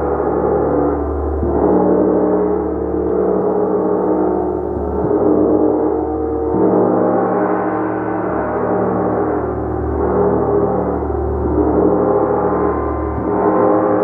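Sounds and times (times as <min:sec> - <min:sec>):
gong ringing: 0:00.0 - 0:14.0.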